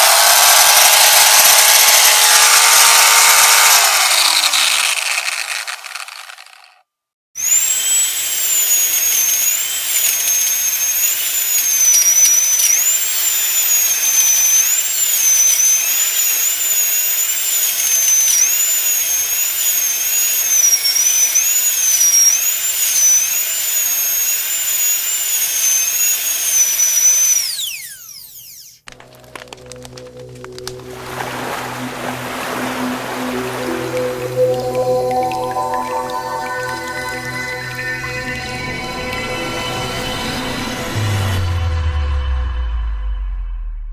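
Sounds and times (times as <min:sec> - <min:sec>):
dentist's drill whining: 0:00.0 - 0:06.8, 0:07.4 - 0:28.9, 0:31.0 - 0:41.4.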